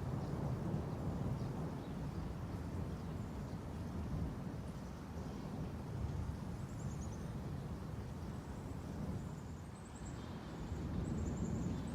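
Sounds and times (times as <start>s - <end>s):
gusty wind: 0.0s - 11.9s.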